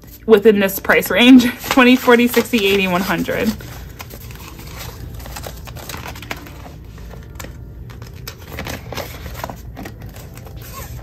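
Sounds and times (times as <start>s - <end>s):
paper and plastic rustling: 0.8s - 11.0s.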